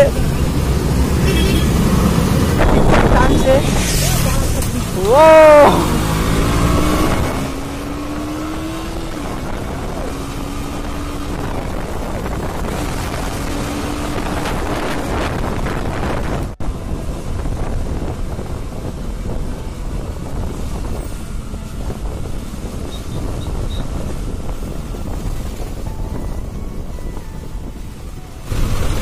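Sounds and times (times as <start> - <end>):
motorcycle engine humming: 0.0 - 29.0
wind rushing across microphone: 0.0 - 29.0.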